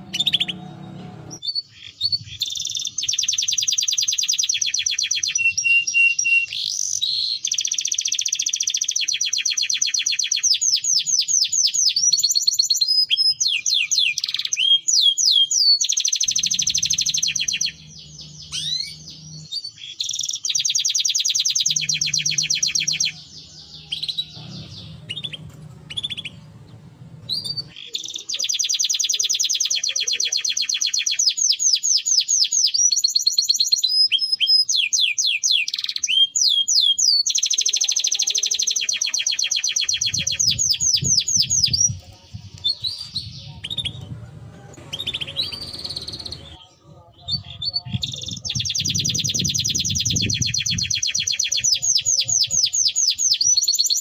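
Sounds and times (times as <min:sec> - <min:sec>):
canary singing fast trills: 0:00.0 - 0:44.2, 0:44.8 - 0:54.0.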